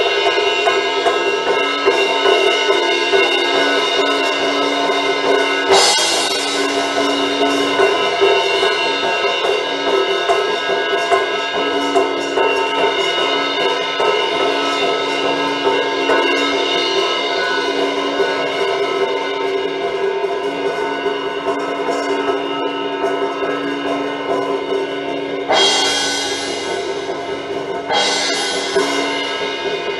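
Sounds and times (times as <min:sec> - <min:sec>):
cymbal crash: 0:00.0 - 0:29.9
instrumental worship music: 0:00.0 - 0:29.9.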